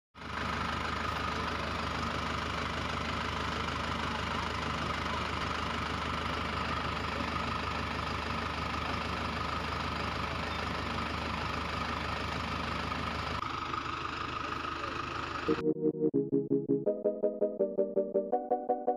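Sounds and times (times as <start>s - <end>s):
tractor engine idling: 0.2s - 15.7s.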